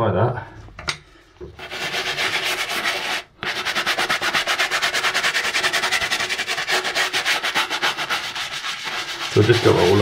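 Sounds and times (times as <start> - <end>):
brush scrubbing boot: 1.6 - 10.0.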